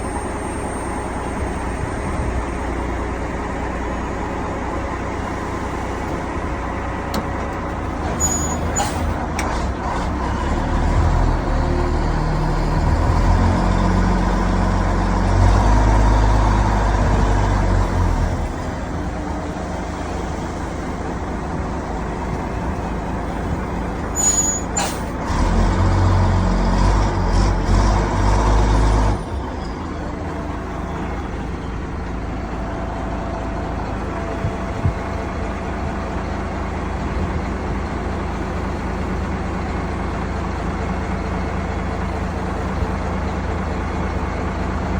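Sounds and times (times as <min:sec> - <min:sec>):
truck diesel engine revving and idling: 0:00.0 - 0:44.9.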